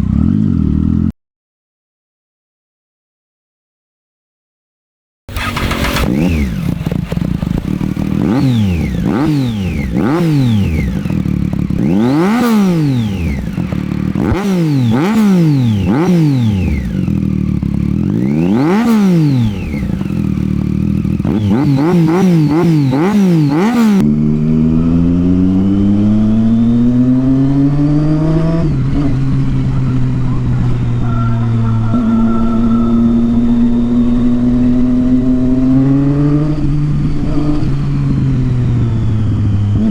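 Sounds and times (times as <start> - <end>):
motorcycle engine revving: 0.0 - 1.1, 5.3 - 39.9.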